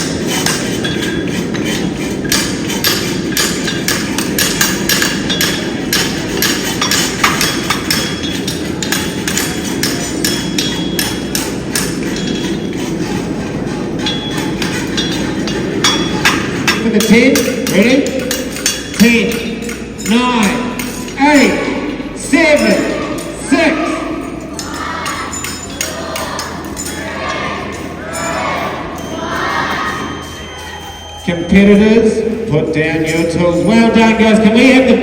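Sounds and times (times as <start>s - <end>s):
crowd hubbub: 0.0s - 35.0s.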